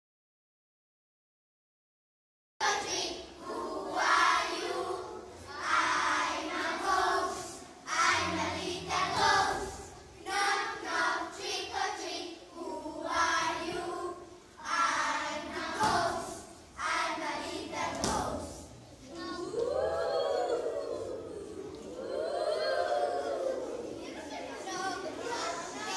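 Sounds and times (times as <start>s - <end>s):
children singing in unison: 2.6s - 25.9s.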